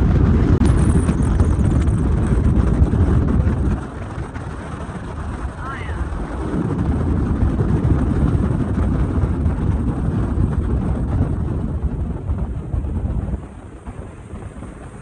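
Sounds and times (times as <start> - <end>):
outboard motor running: 0.0 - 15.0
wind rumbling on microphone: 0.0 - 15.0.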